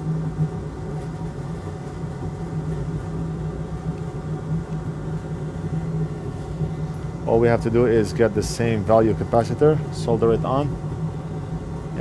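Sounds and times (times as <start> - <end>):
extractor fan humming: 0.0 - 12.0.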